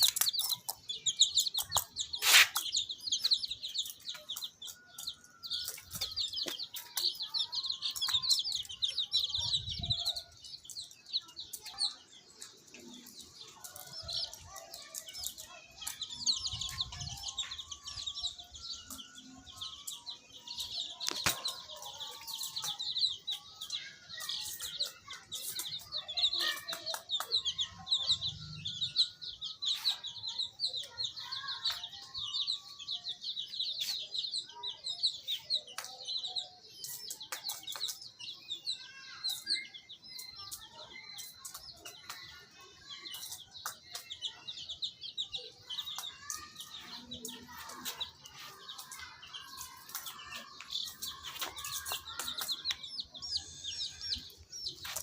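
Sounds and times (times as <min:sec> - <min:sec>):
baby chicks peeping: 0:00.0 - 0:55.0.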